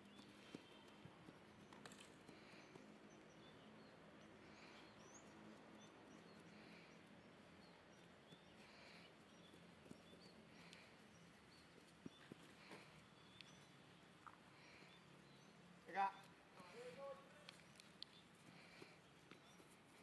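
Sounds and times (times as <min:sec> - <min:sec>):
soft bird chirps: 0:00.0 - 0:20.0.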